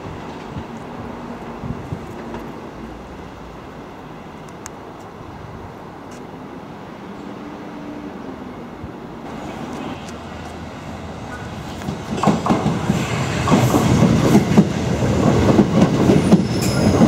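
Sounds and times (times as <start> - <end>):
train wheels and motors rumbling: 0.0 - 7.3, 8.7 - 17.0.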